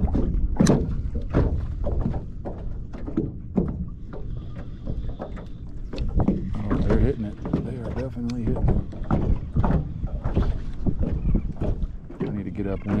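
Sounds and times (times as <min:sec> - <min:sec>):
gear knocking on kayak: 0:00.0 - 0:13.0
wind rumbling on microphone: 0:00.0 - 0:13.0.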